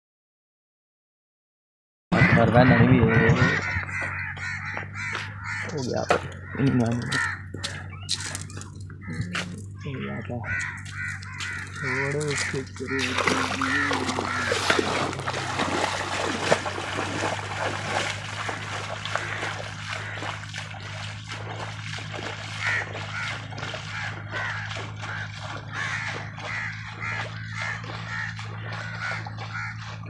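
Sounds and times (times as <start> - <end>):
bird cawing: 2.2 - 30.0
steady low hum: 2.8 - 30.0
splashing footsteps in water: 3.6 - 9.8, 10.4 - 30.0.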